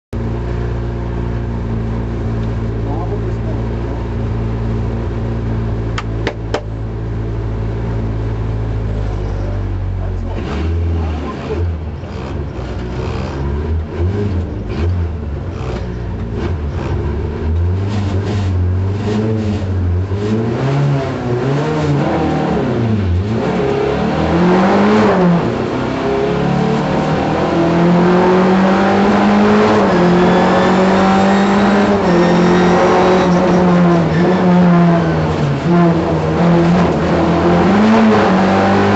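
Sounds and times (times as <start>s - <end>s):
rally car engine revving: 0.2s - 38.9s.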